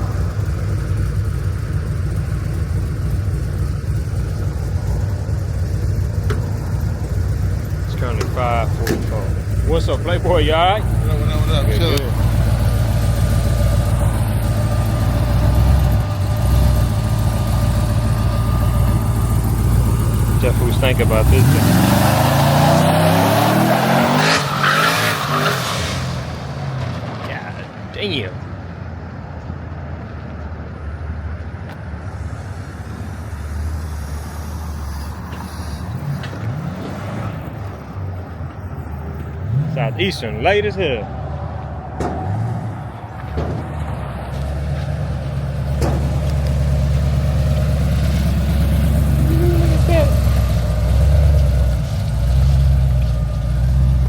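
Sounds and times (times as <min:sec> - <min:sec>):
car engine idling lumpy rumble: 0:00.0 - 0:21.7, 0:26.3 - 0:36.6, 0:37.4 - 0:54.0
road and outdoor noise: 0:00.0 - 0:54.0.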